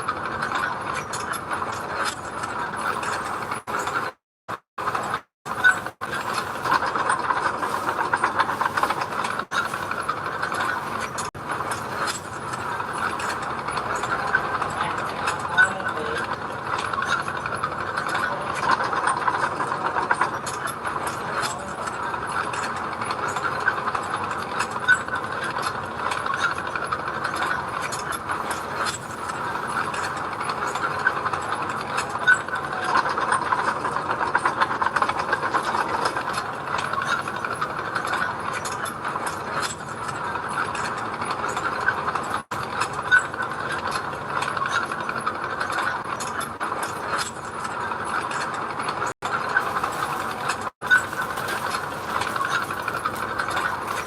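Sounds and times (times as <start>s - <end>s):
metallic clanking and rattling: 5.0s - 54.0s.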